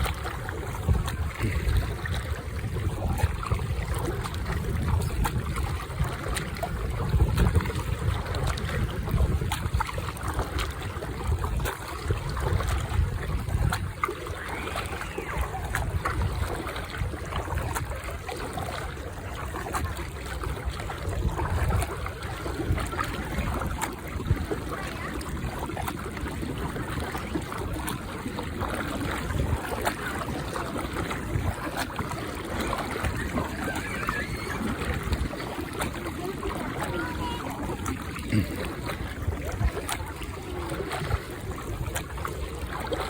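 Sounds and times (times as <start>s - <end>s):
paddle splashing water: 0.0s - 43.0s
water lapping at hull: 0.0s - 43.0s
wind rumble on microphone: 0.0s - 43.0s.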